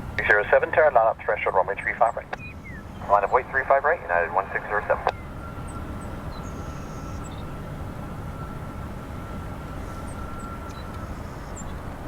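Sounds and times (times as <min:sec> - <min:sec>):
jet engine rumble: 0:00.0 - 0:12.0
thin steady whine: 0:00.0 - 0:12.0.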